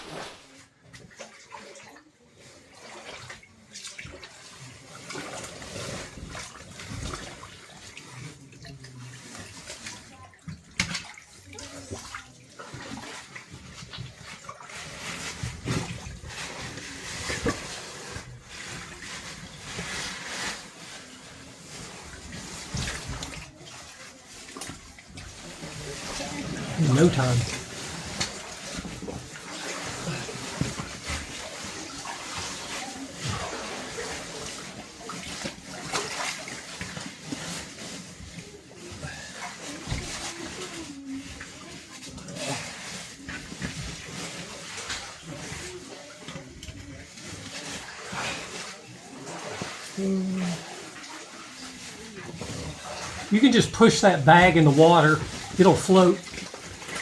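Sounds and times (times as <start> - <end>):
water sloshing and splashing: 0.0 - 57.0.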